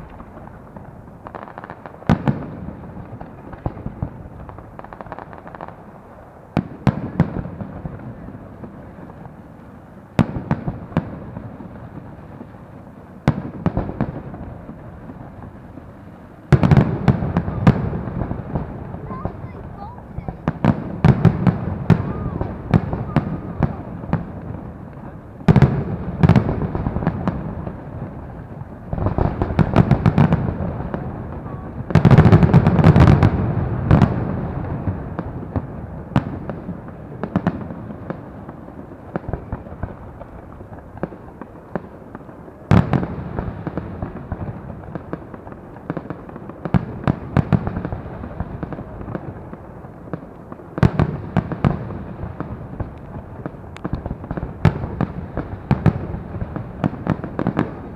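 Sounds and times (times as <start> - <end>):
distant firework bangs: 0.0 - 57.9
firework crackling volleys: 0.0 - 57.9.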